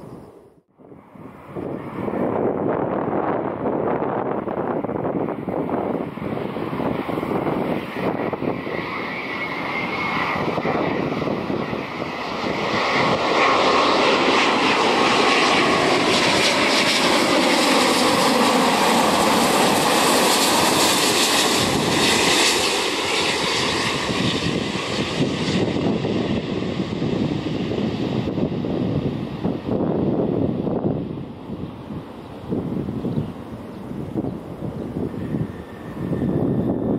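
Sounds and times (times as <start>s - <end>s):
jet engine whine sliding down: 0.0s - 36.9s
jet engines roaring overhead: 0.0s - 36.9s.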